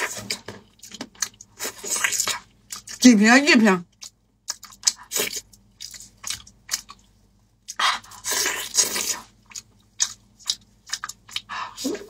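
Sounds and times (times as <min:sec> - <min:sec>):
wet chewing and biting: 0:00.0 - 0:03.1, 0:03.8 - 0:12.0.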